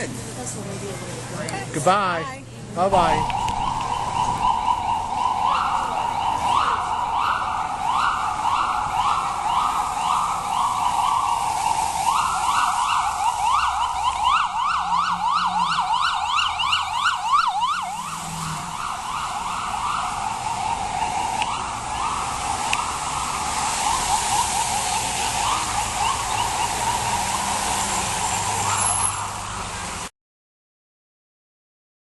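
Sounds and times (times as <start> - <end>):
electronic siren: 2.8 - 29.8.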